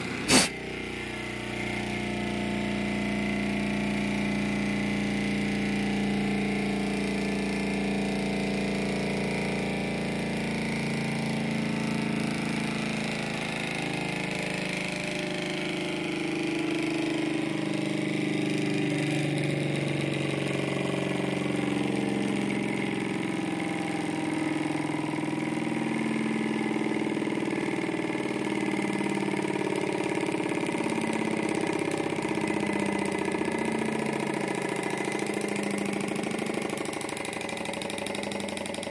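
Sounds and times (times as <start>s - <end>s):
model engine humming and clattering: 0.0s - 38.9s.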